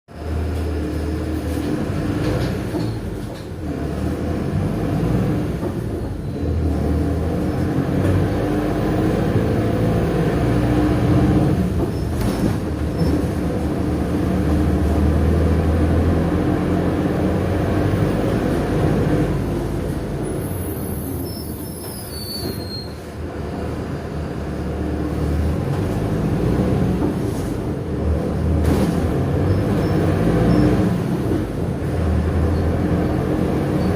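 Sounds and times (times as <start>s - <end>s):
bus diesel engine humming: 0.1s - 22.2s, 22.9s - 33.9s
road rumble: 0.1s - 33.9s.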